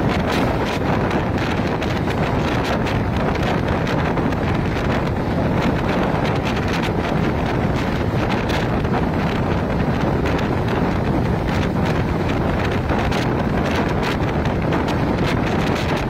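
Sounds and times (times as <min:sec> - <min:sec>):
train running: 0:00.0 - 0:16.0
wind buffeting microphone: 0:00.0 - 0:16.0.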